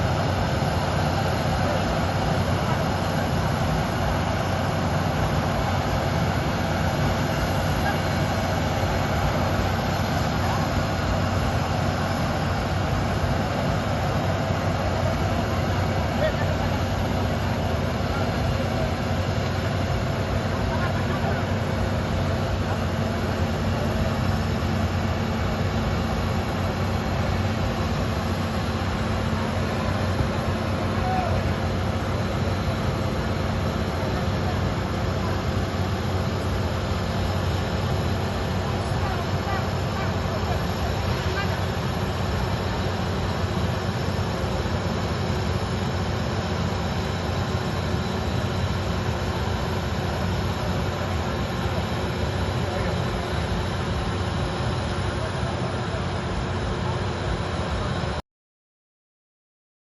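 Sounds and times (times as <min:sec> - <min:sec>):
vehicle engine running: 0:00.0 - 0:58.2.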